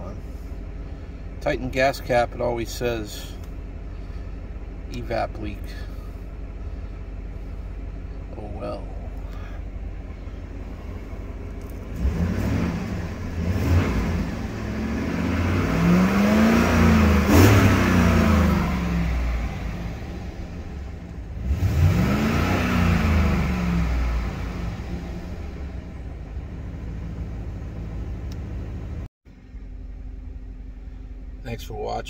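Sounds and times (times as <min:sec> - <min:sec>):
truck engine idling and revving: 0:00.0 - 0:32.0.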